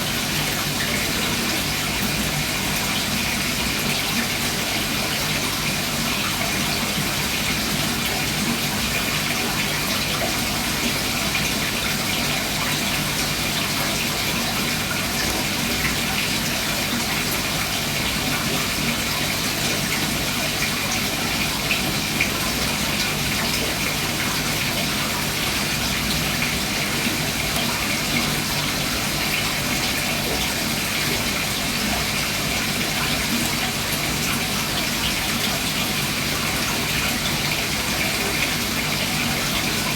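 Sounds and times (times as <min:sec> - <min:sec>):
aquarium filter water running: 0:00.0 - 0:39.9.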